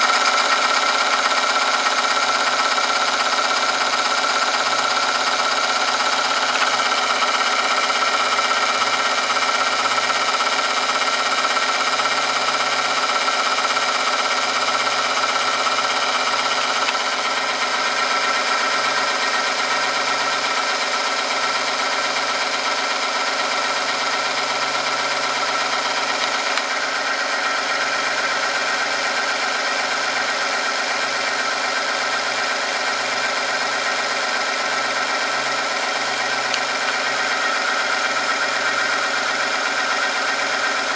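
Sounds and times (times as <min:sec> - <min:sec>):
electric motor whine and hum: 0:00.0 - 0:40.9.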